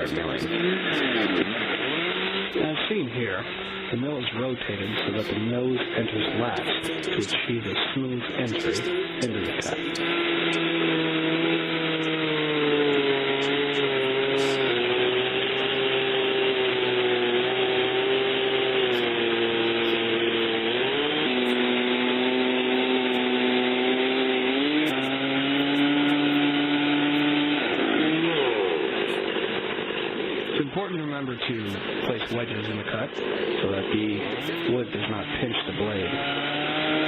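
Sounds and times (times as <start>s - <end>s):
chainsaw cutting log: 0.0s - 37.0s.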